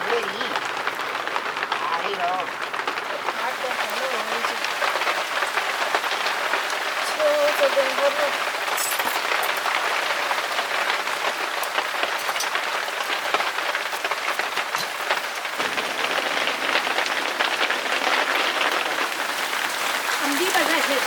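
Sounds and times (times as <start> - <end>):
rain and hail falling: 0.0 - 21.0.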